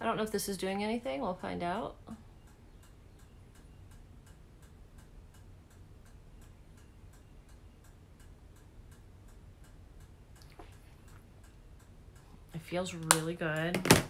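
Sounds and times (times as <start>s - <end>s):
low room hum: 0.0s - 14.0s
faint ticking: 1.3s - 13.7s.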